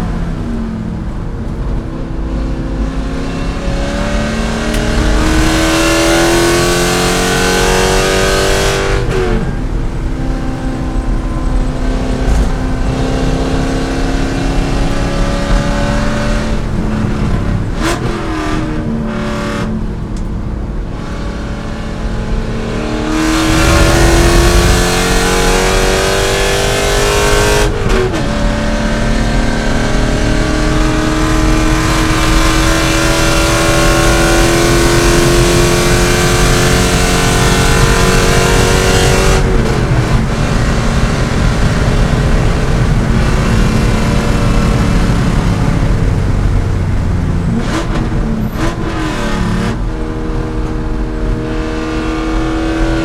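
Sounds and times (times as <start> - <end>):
car engine at full throttle: 0.0 - 53.0
engine blips and shift clicks: 0.0 - 53.0.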